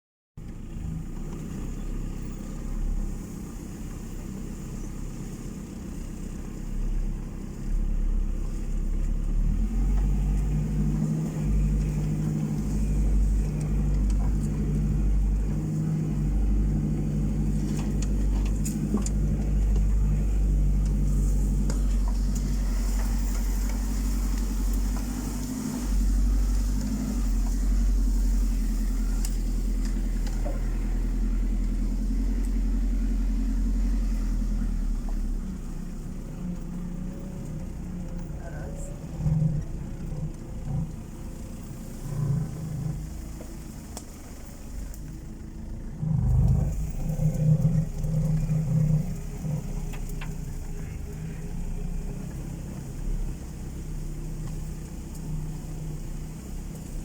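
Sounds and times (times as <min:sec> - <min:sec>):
car engine rumbling: 0:00.4 - 0:57.0.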